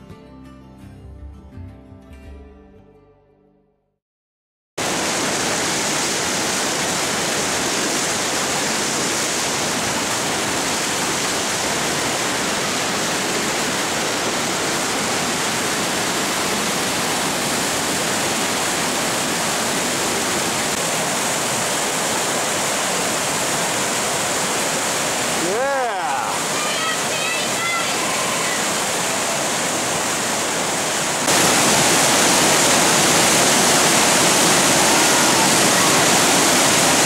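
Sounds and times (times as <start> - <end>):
whitewater rapids rushing: 4.8 - 37.0.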